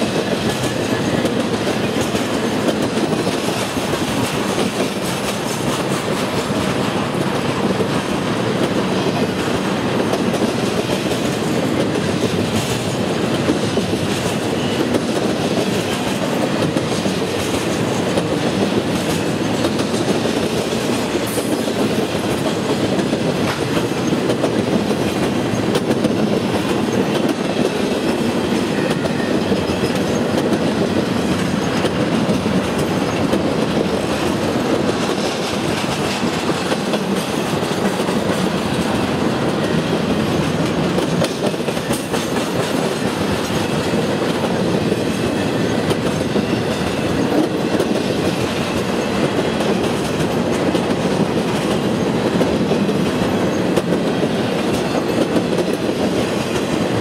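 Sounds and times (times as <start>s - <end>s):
freight train rolling past: 0.0s - 57.0s
steel wheels on rails: 0.0s - 57.0s.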